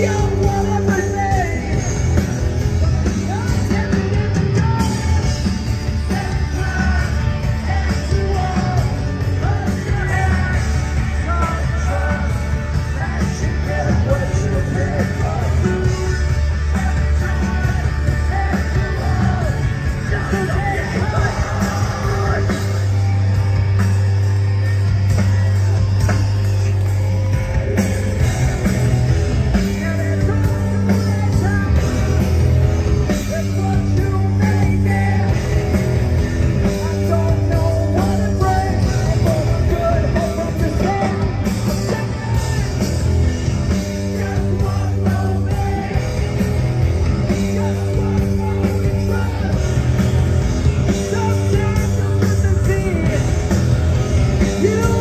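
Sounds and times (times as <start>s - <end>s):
live rock band playing: 0.0s - 55.0s
steady bass notes: 0.0s - 55.0s.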